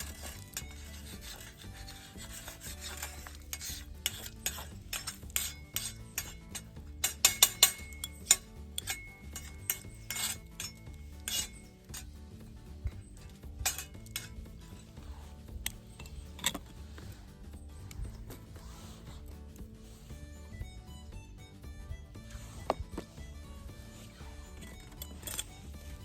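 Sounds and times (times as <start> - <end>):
metal utensil scraping griddle: 0.0 - 26.0.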